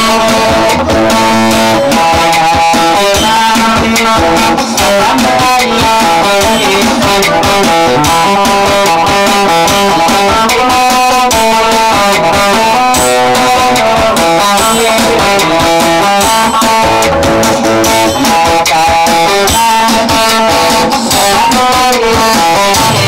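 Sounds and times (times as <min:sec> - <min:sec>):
electric guitar dance music: 0:00.0 - 0:23.0.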